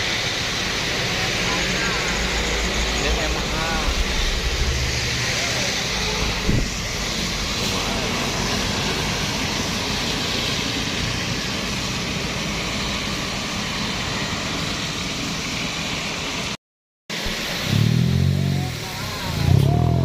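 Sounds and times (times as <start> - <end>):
heavy vehicle engines: 0.0 - 20.0
tyre and road noise: 0.2 - 16.4.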